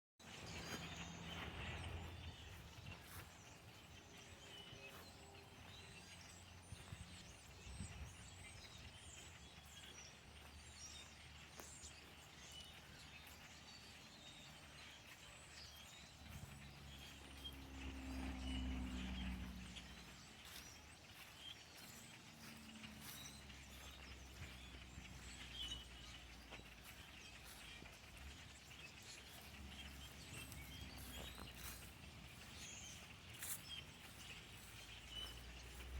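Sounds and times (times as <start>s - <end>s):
flock of birds chattering: 0.2s - 35.9s.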